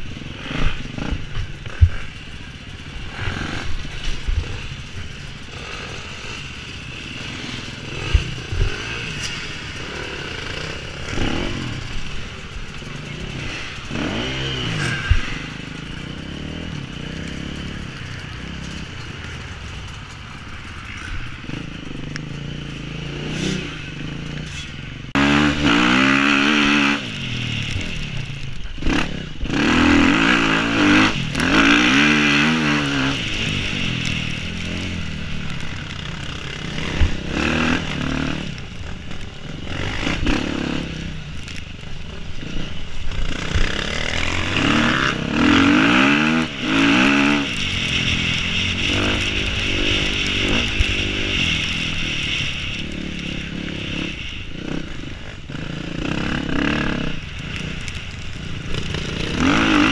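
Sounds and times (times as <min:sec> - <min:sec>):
dirt bike engine revving: 0:00.0 - 0:59.9
wind rumble: 0:00.0 - 0:59.9.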